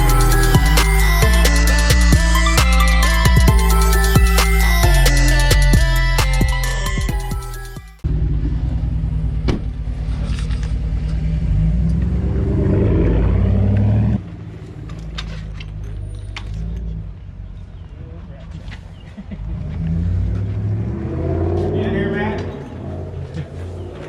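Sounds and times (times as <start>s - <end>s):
vehicle engine pulsing drone: 0.0s - 24.0s.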